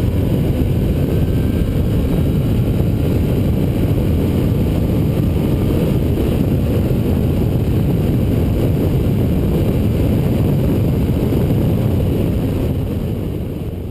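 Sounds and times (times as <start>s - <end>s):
motorcycle engine at speed: 0.0s - 13.9s
wind rumble on microphone: 0.0s - 13.9s.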